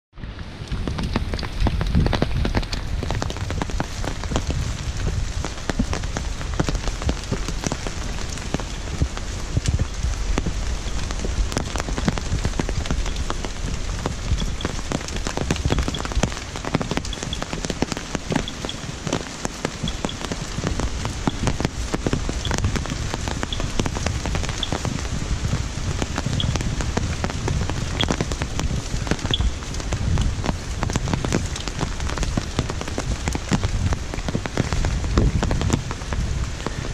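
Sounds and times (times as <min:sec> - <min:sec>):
rain on leaves and stone: 0:00.1 - 0:36.9.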